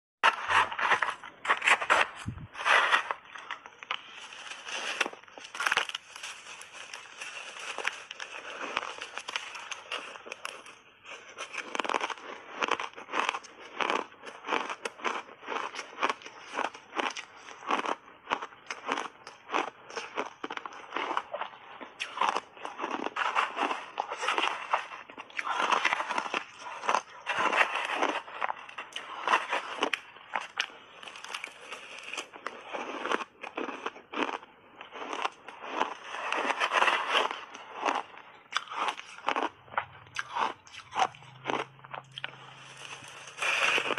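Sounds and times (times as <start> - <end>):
crunching and chewing ice: 0.2 - 43.9.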